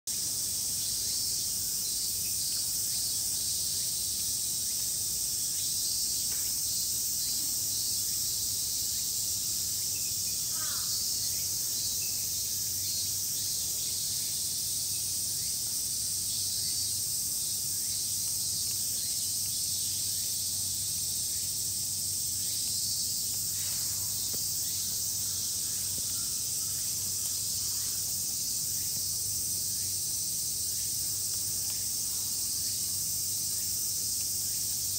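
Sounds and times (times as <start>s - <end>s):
cicadas chorus: 0.1s - 34.9s.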